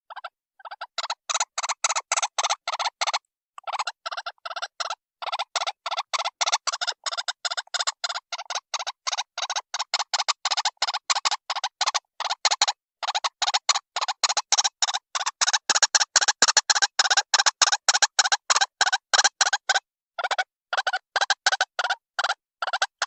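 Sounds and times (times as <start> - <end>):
bird call notes repeating rapidly: 0.1 - 23.0.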